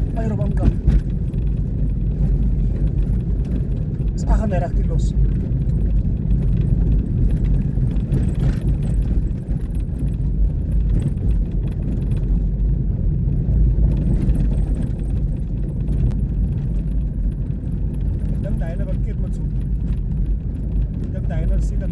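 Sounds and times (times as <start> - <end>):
road rumble inside vehicle: 0.0 - 21.9
small rattles and knocks: 0.0 - 21.9.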